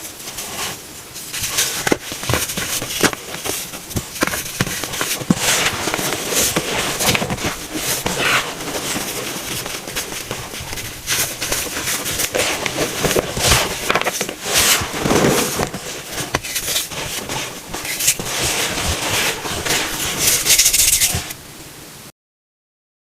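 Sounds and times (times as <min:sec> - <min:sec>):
baking soda crunching: 0:00.2 - 0:21.4.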